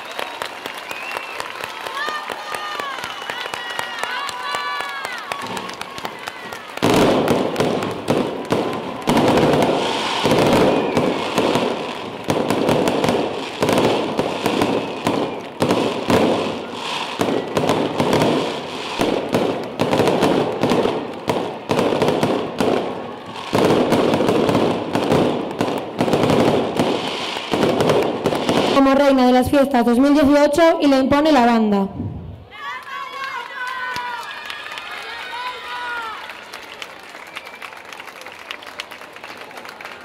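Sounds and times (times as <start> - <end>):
audience applauding: 0.0 - 28.7, 32.6 - 40.0.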